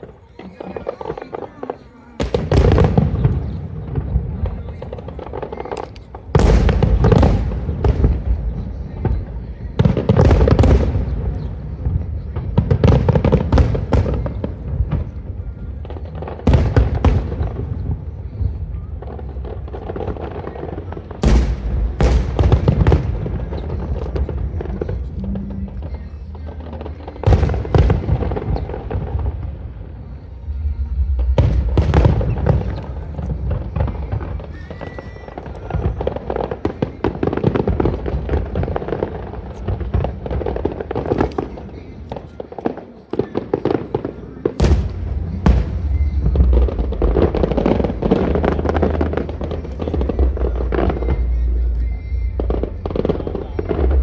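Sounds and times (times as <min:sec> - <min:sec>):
fireworks booming: 0:00.0 - 0:54.0
fireworks crackling: 0:00.0 - 0:54.0.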